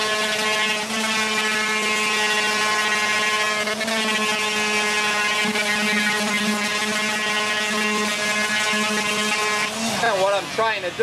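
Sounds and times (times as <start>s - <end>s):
orbital sander whining: 0.0s - 11.0s.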